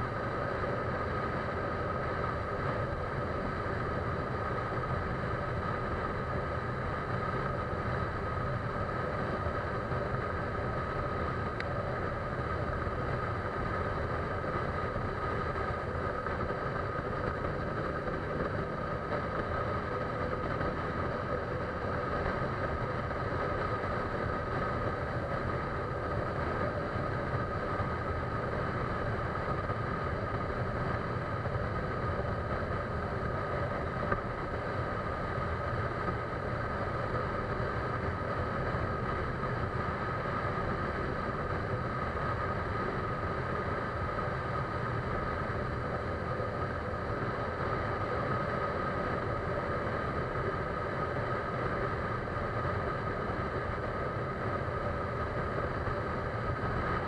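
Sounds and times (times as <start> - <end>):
motor running steadily: 0.0 - 57.0.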